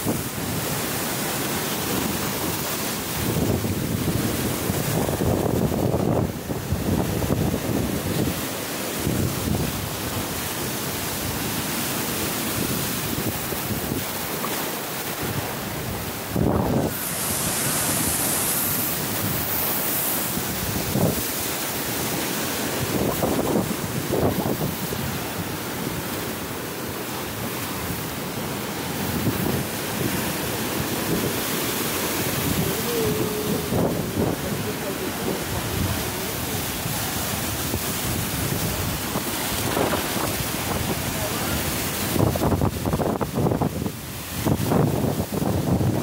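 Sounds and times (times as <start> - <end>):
waves breaking on seawall: 0.0 - 46.0
wind buffeting microphone: 1.9 - 11.5, 12.4 - 26.6, 27.4 - 46.0.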